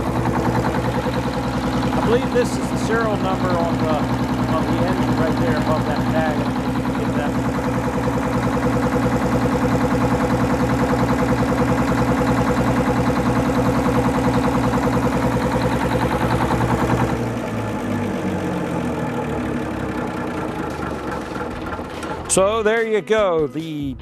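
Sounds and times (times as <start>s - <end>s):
diesel engine running down: 0.0s - 24.0s
diesel generator running: 0.0s - 24.0s.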